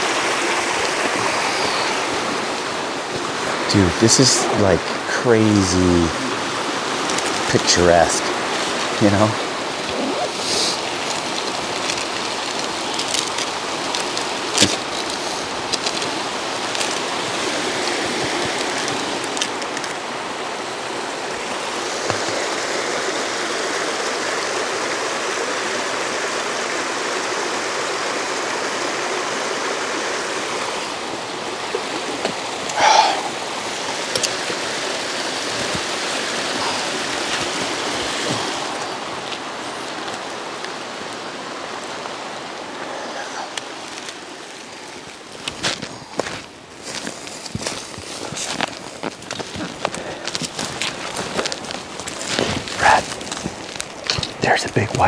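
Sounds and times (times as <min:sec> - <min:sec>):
creek water rushing over rocks: 0:00.0 - 0:55.0.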